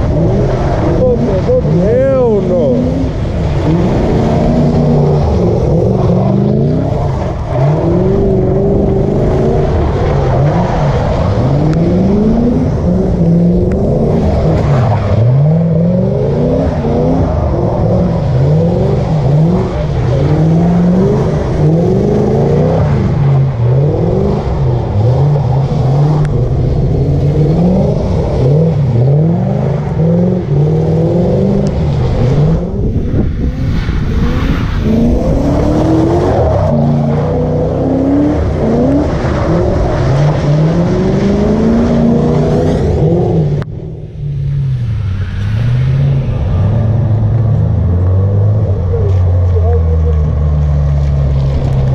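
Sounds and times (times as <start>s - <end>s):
car engines revving hard: 0.0s - 51.9s.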